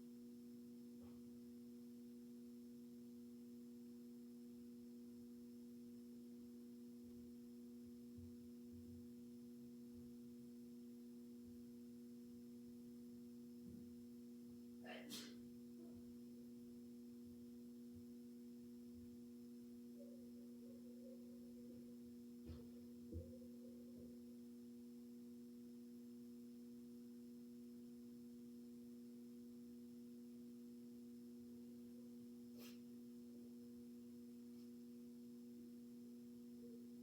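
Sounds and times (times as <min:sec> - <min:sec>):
faint low hum: 0:00.0 - 0:37.0.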